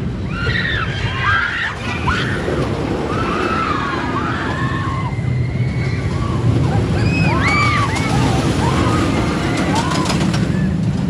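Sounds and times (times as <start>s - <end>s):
roller coaster train rumbling: 0.0s - 11.0s
riders screaming: 0.1s - 11.0s.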